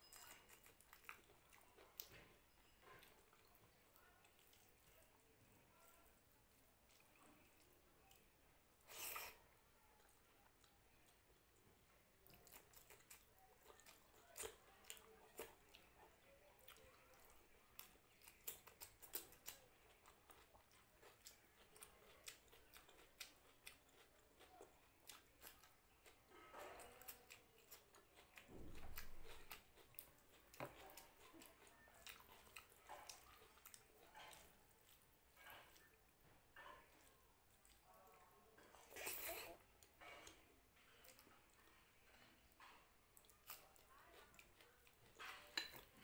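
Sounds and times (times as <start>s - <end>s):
close-up chewing: 0.0s - 46.0s.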